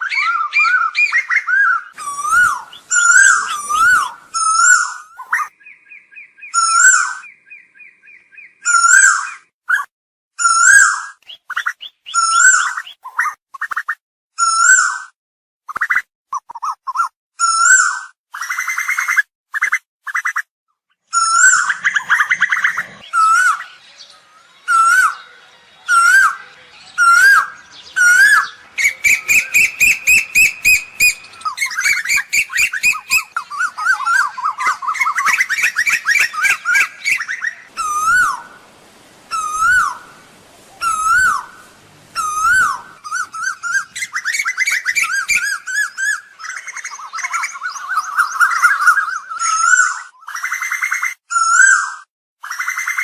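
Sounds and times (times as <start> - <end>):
bird calling: 0.0 - 9.8, 10.4 - 13.4, 21.1 - 53.0.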